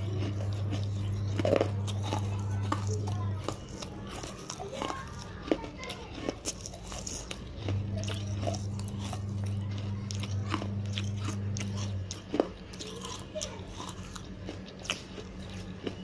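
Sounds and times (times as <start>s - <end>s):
crunching clay pieces in mouth: 0.0s - 16.0s
low steady hum: 0.0s - 16.0s.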